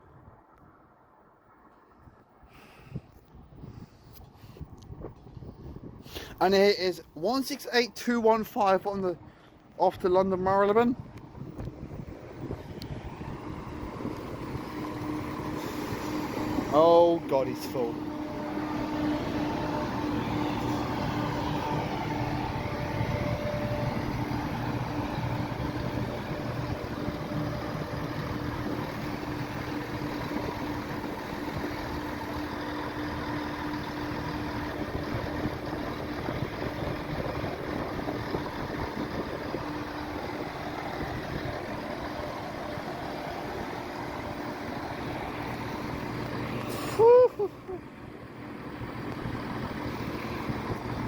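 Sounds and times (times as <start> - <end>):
train diesel engines idling: 6.2 - 51.0.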